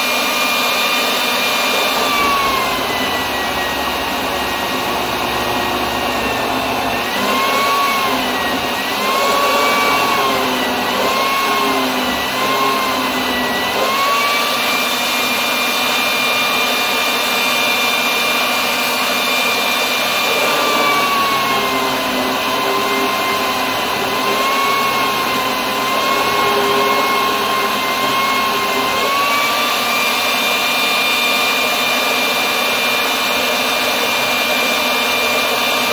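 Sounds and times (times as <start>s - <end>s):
citrus juicer motor whine: 0.0s - 35.9s.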